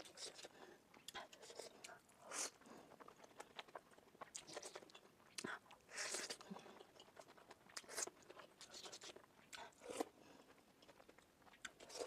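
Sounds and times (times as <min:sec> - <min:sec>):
dumplings being chewed: 0:00.0 - 0:12.0.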